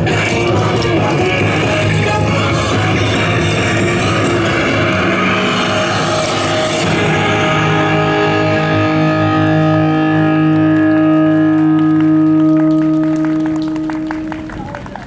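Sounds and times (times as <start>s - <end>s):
dance music final chord: 0.0s - 14.5s
electric guitar ringing: 0.0s - 15.0s.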